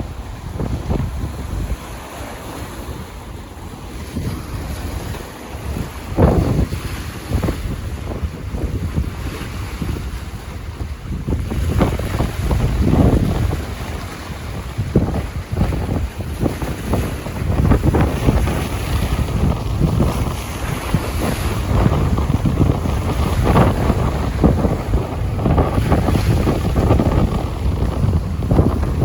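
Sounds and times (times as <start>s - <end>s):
choppy river waves splashing: 0.0s - 29.0s
wind buffeting microphone: 0.0s - 29.0s.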